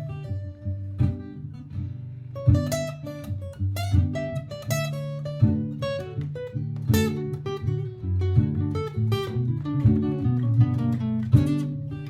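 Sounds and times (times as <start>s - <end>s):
acoustic guitar strumming: 0.0s - 12.0s
plucked guitar lead lines: 0.0s - 12.0s.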